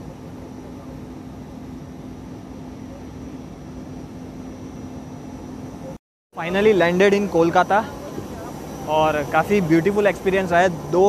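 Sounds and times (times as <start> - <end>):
jet cockpit hum and air hiss: 0.0 - 11.0.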